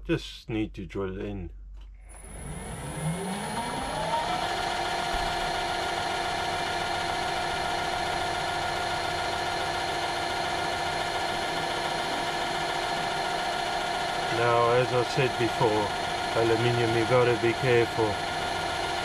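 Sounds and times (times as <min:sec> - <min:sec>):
motor hum: 0:01.6 - 0:19.0
drill cutting into aluminium: 0:02.1 - 0:19.0
metal lathe whining: 0:02.2 - 0:19.0.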